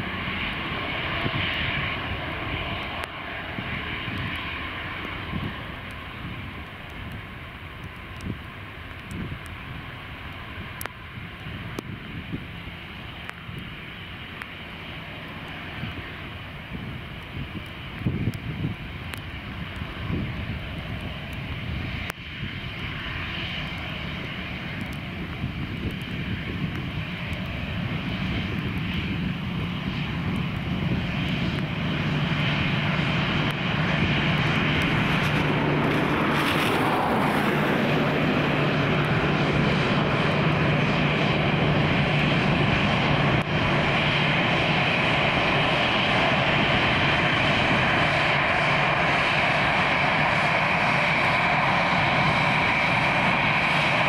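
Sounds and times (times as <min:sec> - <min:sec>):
jet engines at taxi power: 0:00.0 - 0:54.0.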